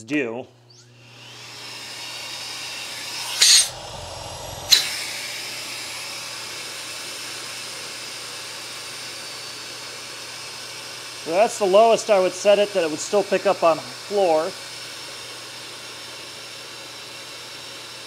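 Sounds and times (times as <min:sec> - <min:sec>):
vacuum cleaner motor running: 0:00.8 - 0:18.0.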